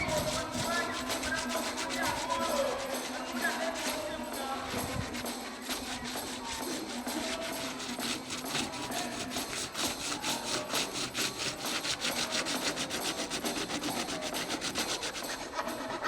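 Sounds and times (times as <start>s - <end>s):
hand tool scraping plastic: 0.0s - 16.0s.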